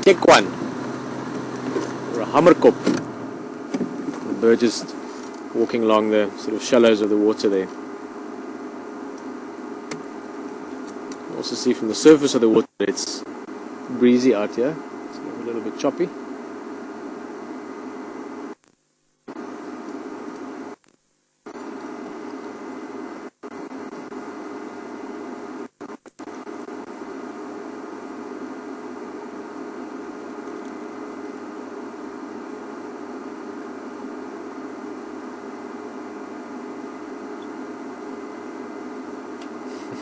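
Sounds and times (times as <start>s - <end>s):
electrical hum and static hiss: 0.0s - 40.0s.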